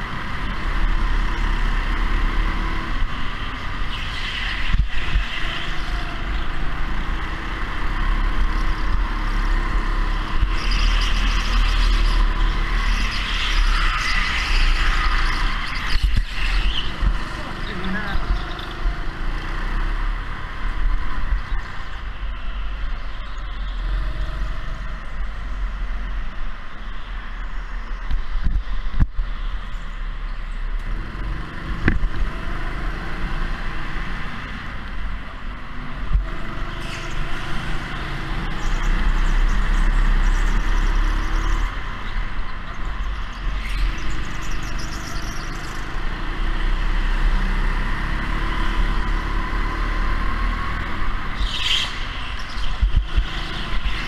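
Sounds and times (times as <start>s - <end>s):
go-kart engine rumble: 0.0s - 54.0s.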